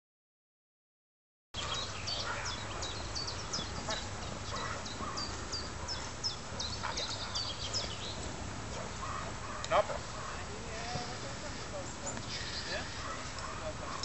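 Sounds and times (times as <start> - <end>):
small birds chirping: 1.6 - 14.0.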